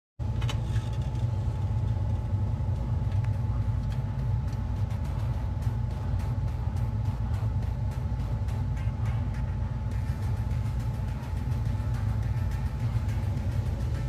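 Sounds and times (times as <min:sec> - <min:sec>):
heavy machinery engine rumbling: 0:00.2 - 0:14.0.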